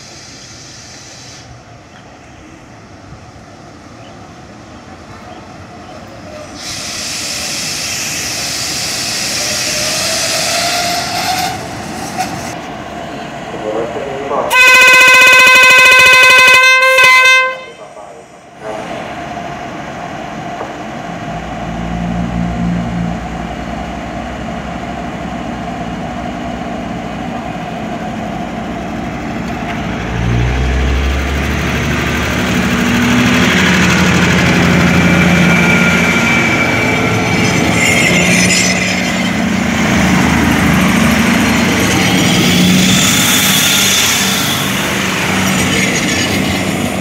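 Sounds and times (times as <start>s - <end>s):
diesel train engine pulling away: 0.0s - 47.0s
train carriages passing: 0.0s - 47.0s.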